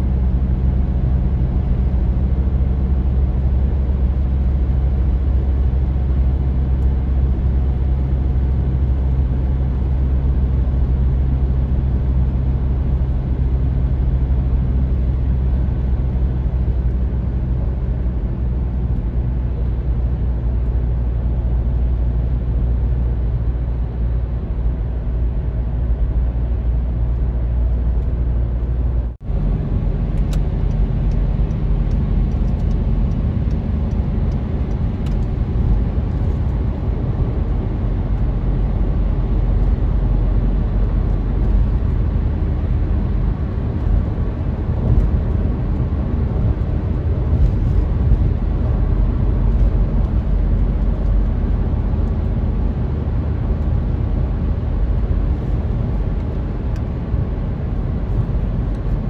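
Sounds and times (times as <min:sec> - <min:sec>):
car road and engine drone: 0:00.0 - 0:59.0.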